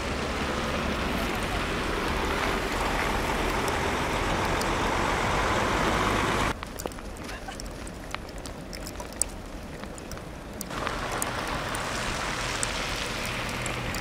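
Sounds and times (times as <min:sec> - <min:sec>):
road traffic noise: 0:00.0 - 0:08.7, 0:09.3 - 0:14.0.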